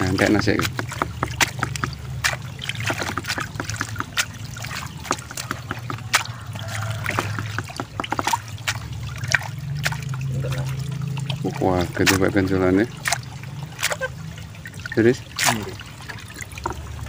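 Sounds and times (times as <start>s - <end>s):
water dripping and trickling: 0.0s - 17.0s.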